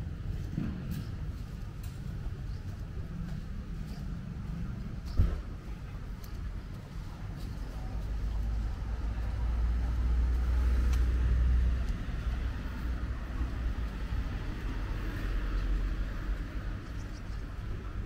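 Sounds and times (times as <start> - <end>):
traffic hum: 0.0 - 18.0.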